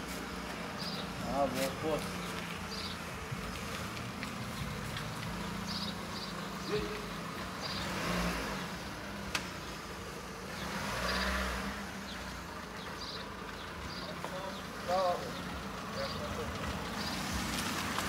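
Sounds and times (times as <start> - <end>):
car engine hum: 0.0 - 18.0
traffic noise: 0.0 - 18.0.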